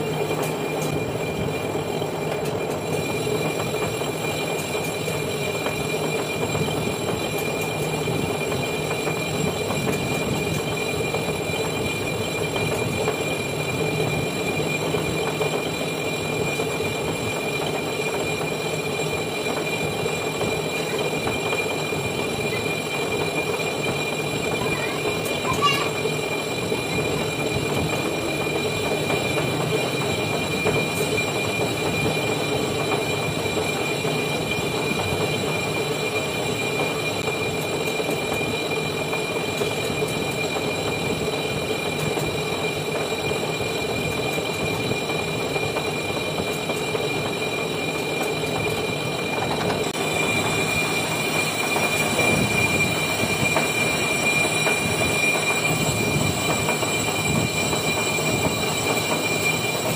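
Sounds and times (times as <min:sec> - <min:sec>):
high-pitched cutting whine: 0:00.0 - 0:59.9
lathe machine hum: 0:00.0 - 0:59.9.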